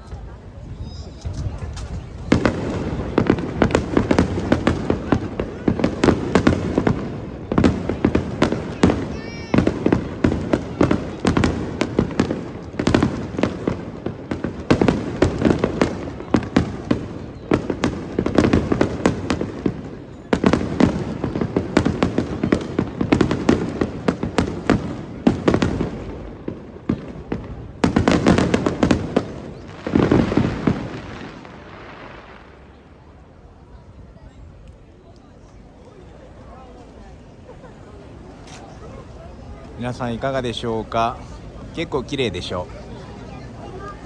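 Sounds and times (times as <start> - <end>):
fireworks bursting and crackling: 0.0 - 33.7, 35.7 - 44.0.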